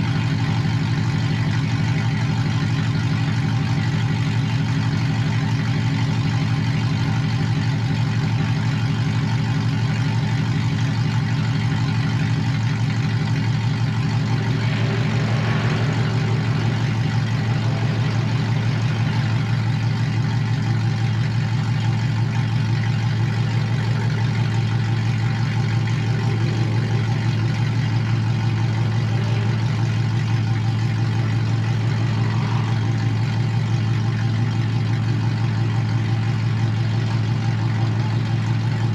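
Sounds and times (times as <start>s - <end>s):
pickup truck engine idling: 0.0s - 38.9s.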